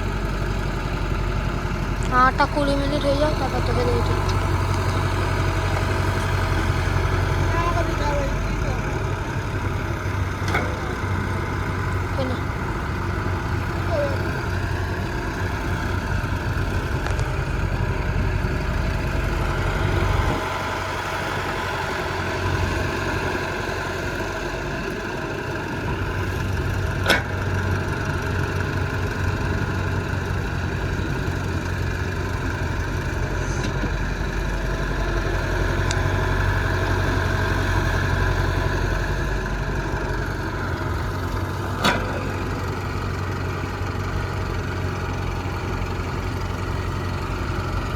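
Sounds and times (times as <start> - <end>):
diesel machinery engines running: 0.0 - 47.9.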